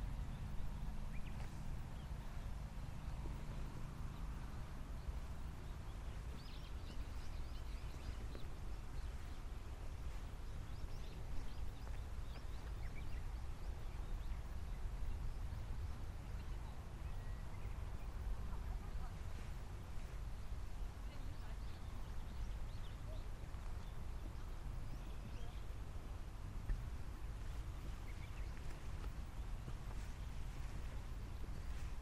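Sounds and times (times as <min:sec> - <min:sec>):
wind buffeting microphone: 0:00.0 - 0:32.0
faint bird chirps: 0:05.0 - 0:25.8, 0:26.6 - 0:32.0.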